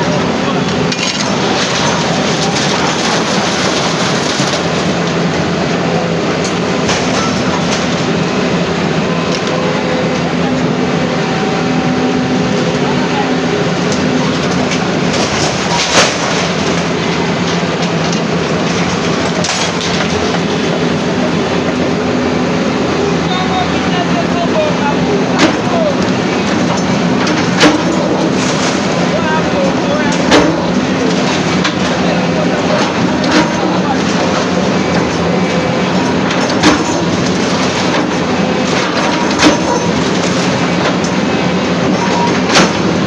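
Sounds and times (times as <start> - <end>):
crowd voices: 0.0 - 43.0
engines running: 0.0 - 43.0.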